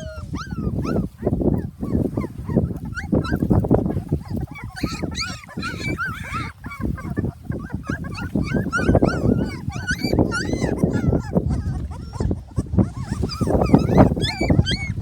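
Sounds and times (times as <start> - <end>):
puppies whimpering and yelping: 0.0 - 15.0.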